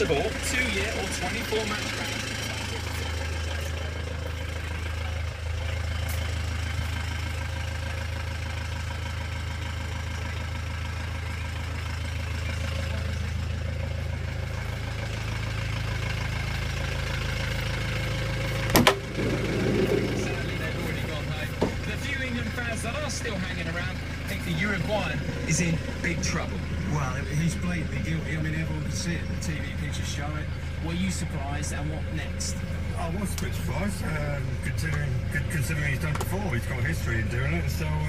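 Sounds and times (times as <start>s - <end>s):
van engine idling: 0.0s - 38.0s.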